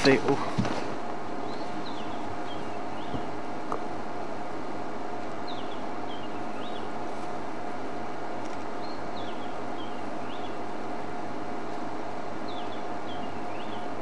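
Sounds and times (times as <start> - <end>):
faint hum: 0.0 - 14.0
songbird singing: 0.0 - 14.0.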